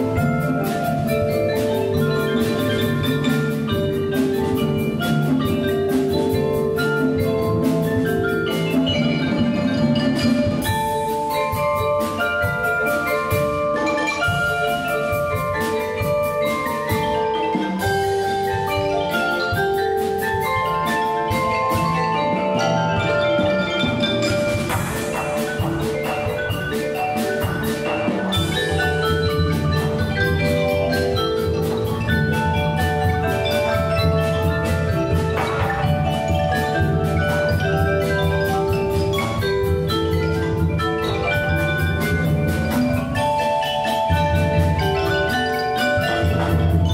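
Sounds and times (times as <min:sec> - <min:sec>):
drums: 0:00.0 - 0:46.9
marimbas and vibraphones: 0:00.0 - 0:46.9.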